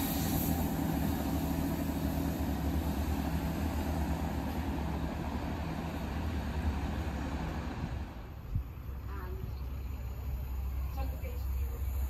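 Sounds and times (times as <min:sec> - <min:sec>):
train diesel engine drone: 0:00.0 - 0:12.0
train wheels rumbling on rails: 0:00.0 - 0:12.0.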